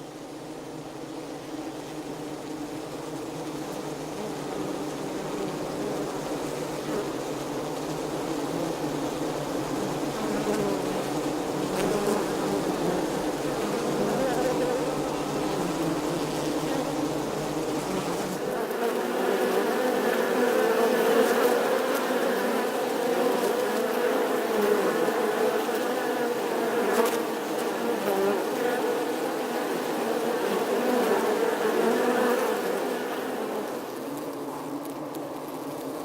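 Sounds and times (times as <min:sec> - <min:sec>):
bees buzzing: 0:00.0 - 0:36.0.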